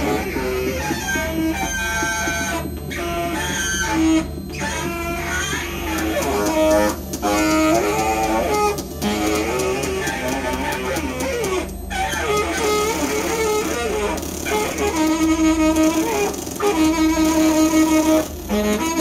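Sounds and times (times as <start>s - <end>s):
saxophone improvisation: 0.0s - 19.0s
steady low hum: 0.0s - 19.0s.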